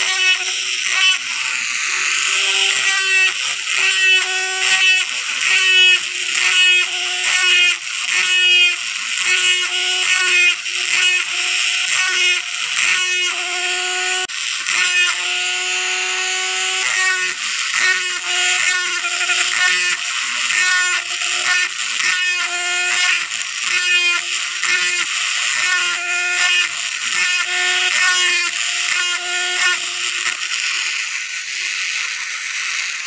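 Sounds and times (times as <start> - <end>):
burr grinding rasp on wood: 0.0 - 33.0
rotary tool whining: 0.0 - 33.0.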